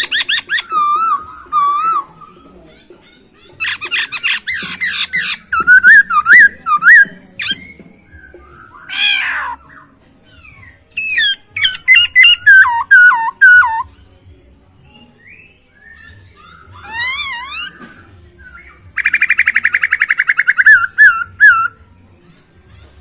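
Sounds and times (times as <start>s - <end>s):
bird singing varied song: 0.0s - 23.0s.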